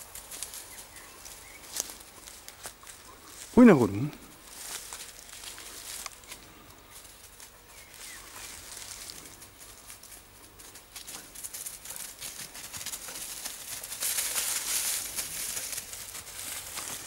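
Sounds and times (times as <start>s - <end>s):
brush and twigs rustling: 0.0s - 17.0s.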